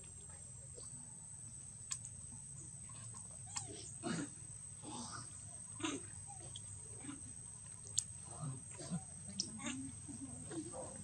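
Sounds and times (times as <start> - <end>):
monkey calls and snuffles: 1.9 - 11.0.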